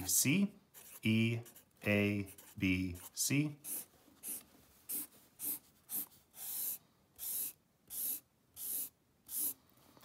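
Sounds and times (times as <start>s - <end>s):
marker drawing on paper: 0.0s - 9.6s.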